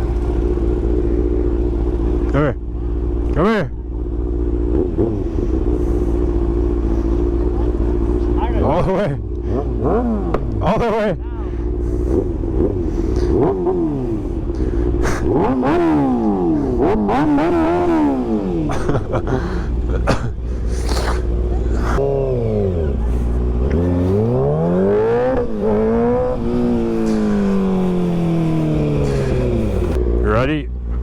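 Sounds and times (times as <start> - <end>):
vehicle engine revving: 0.0 - 31.0.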